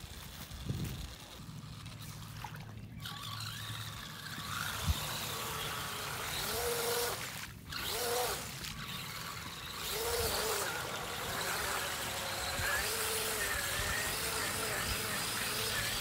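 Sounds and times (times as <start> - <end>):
toy car motor running: 0.0 - 16.0.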